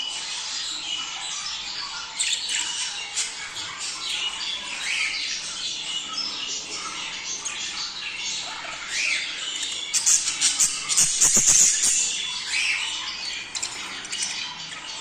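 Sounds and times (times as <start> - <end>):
budgerigars chattering and squawking: 0.1 - 15.0.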